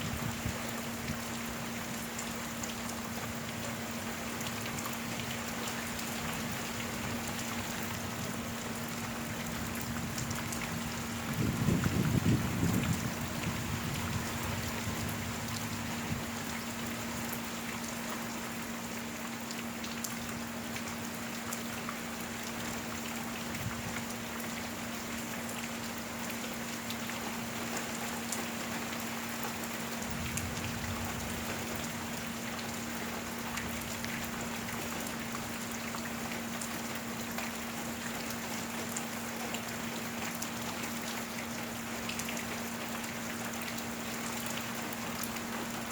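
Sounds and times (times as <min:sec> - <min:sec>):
rain drops ticking: 0:00.0 - 0:45.9.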